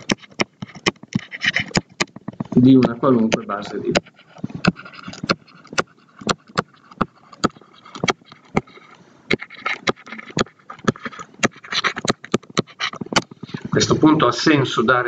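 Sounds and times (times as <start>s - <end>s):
stylus tapping on tablet screen: 0.0s - 13.5s
faint stylus scratching: 0.0s - 14.0s.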